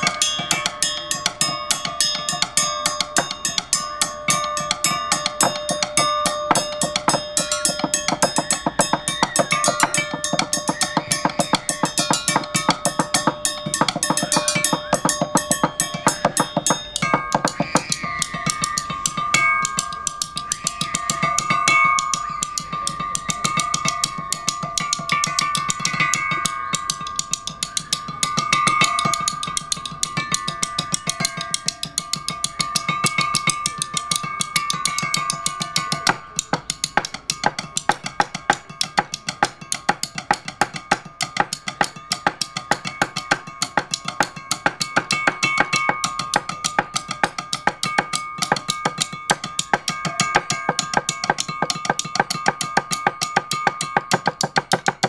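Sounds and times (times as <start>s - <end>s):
mallets striking metal tubes: 0.0s - 55.0s.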